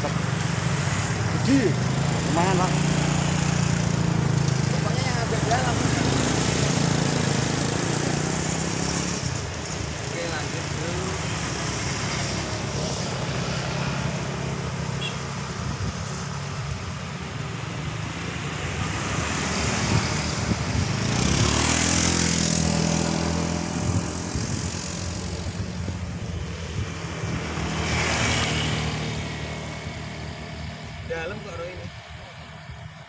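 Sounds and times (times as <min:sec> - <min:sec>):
vehicle passing: 0:00.0 - 0:32.6
vehicle engines running: 0:00.0 - 0:33.0.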